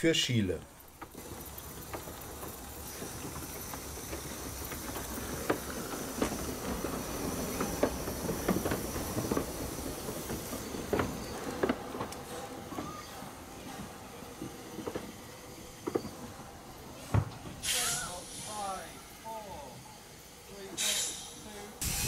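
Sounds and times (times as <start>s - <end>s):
steam hissing: 0.8s - 22.0s.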